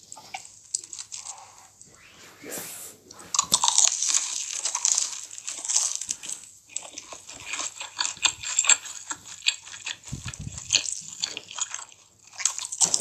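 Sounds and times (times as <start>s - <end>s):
mouth chewing wet food: 0.0s - 1.8s, 3.1s - 13.0s.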